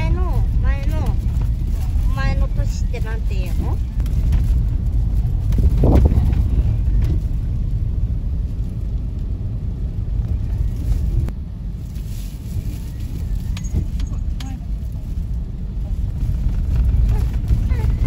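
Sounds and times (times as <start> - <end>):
tyres rumbling on packed snow: 0.0 - 18.0.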